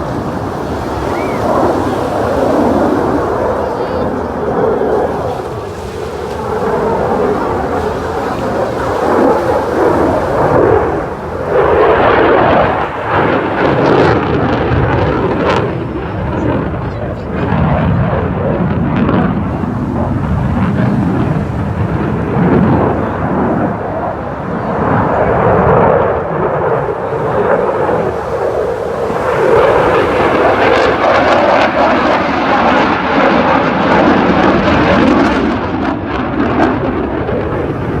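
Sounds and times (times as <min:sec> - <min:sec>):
fighter jet engine rumble: 0:00.0 - 0:38.0.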